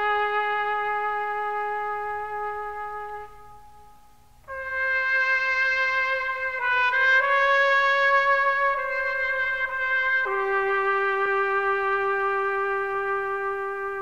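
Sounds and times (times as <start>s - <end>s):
long held brass notes: 0.0s - 14.0s.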